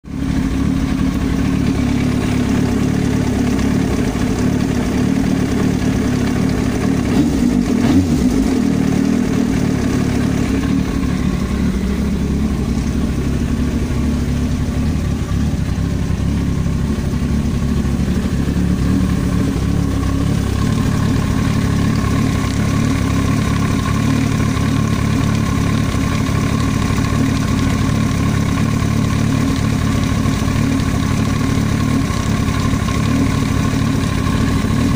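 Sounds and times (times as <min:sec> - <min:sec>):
engine knocking: 0:00.0 - 0:34.9
motorcycle engine idling: 0:00.0 - 0:34.9.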